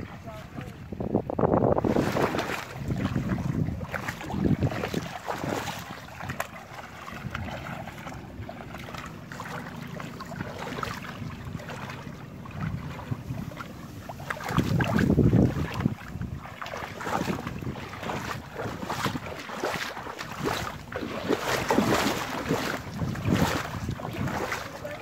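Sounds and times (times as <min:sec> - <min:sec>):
people wading and splashing: 0:00.0 - 0:25.0
wind rumbling on microphone: 0:00.0 - 0:25.0.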